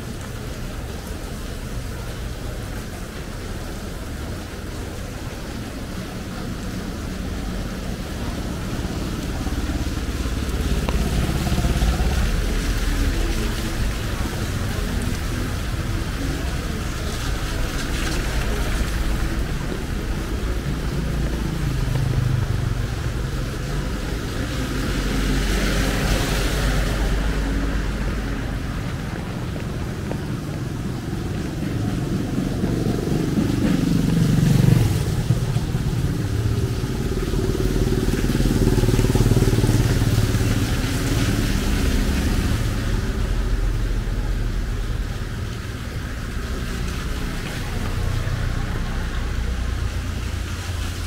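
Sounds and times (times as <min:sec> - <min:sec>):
motorcycles passing: 0:00.0 - 0:51.0
tyres hissing on wet road: 0:00.0 - 0:51.0.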